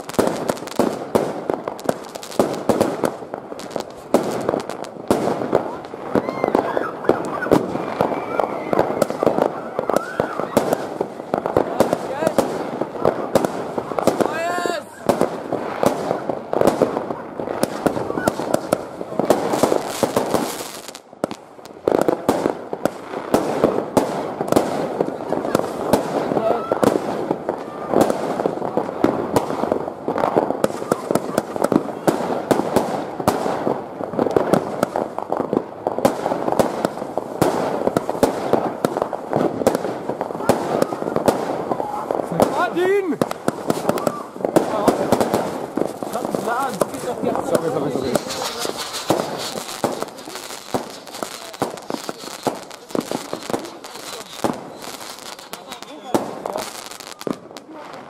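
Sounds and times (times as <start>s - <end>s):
firework shots and bangs: 0.0s - 58.0s.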